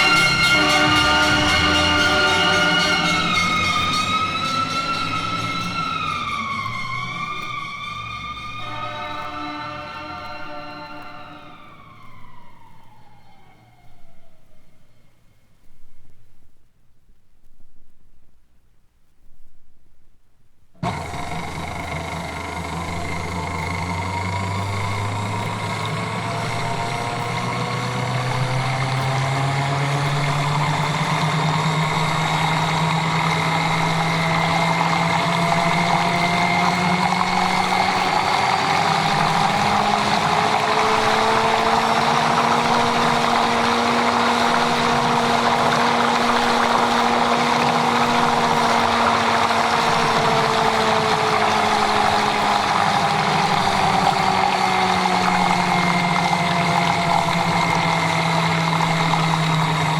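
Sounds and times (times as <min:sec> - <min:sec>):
motor running with rising pitch: 0:00.0 - 0:12.5, 0:20.8 - 0:59.9.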